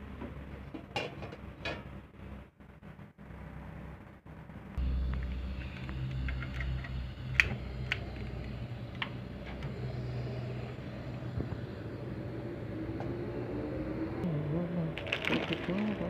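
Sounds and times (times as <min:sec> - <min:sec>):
gas burner rumbling: 0:00.0 - 0:16.0.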